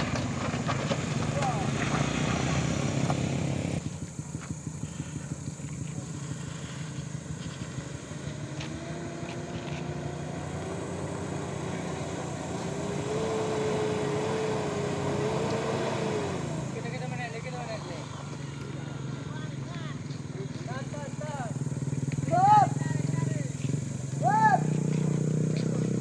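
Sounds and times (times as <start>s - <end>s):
pickup engine passing: 0.0s - 26.0s
van engine whining uphill: 0.0s - 26.0s.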